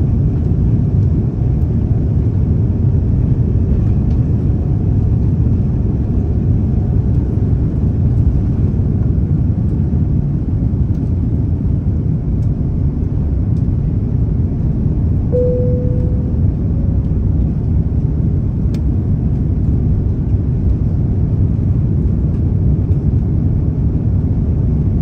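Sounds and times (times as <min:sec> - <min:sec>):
airplane cabin rumble: 0:00.0 - 0:25.0.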